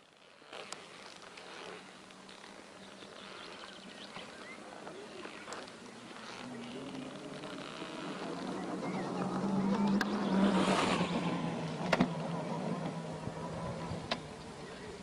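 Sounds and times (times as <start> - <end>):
electric motorcycle motor hum: 0.0 - 15.0.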